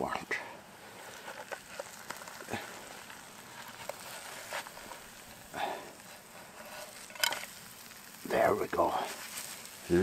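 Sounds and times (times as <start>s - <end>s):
rustle: 0.0s - 10.0s
food frying in a pan: 0.8s - 10.0s.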